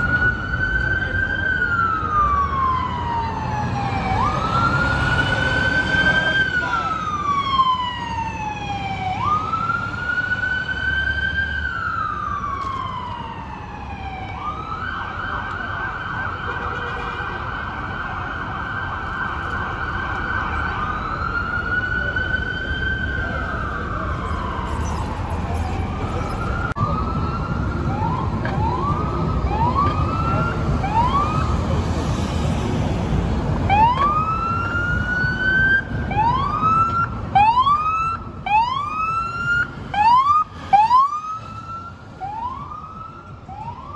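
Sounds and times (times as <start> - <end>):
emergency siren wailing and yelping: 0.0 - 31.9, 33.6 - 43.9
city traffic rumble: 0.0 - 43.9.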